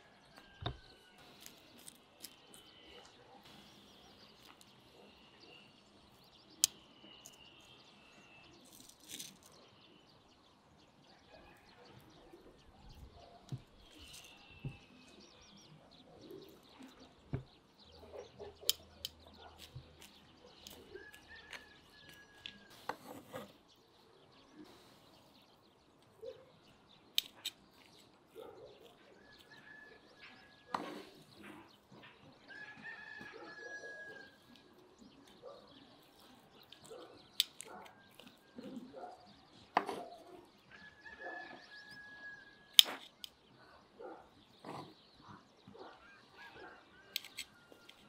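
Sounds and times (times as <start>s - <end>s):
birds calling: 0.0s - 48.0s.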